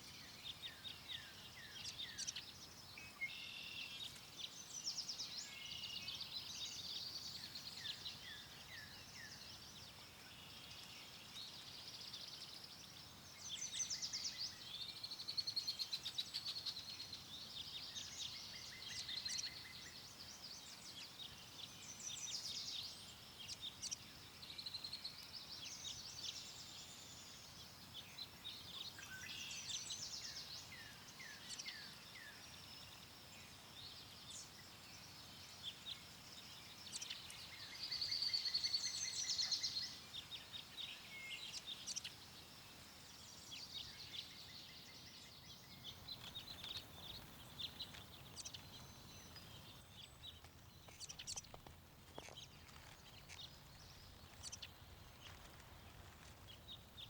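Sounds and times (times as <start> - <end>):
faint background hiss: 0.0 - 57.0
songbirds singing: 0.0 - 57.0.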